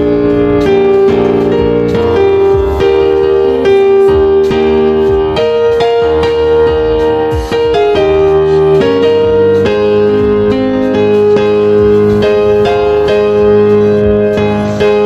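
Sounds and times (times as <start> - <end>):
keyboard notes over steady beat: 0.0 - 15.0.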